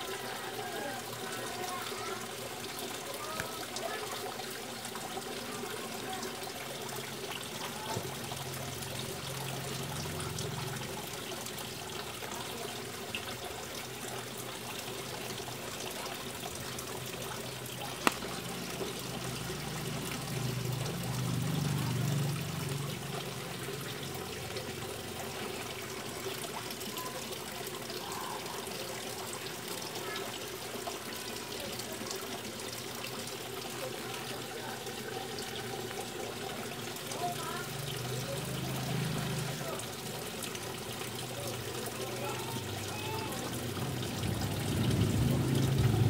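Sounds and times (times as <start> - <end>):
water trickling and splashing: 0.0 - 46.0.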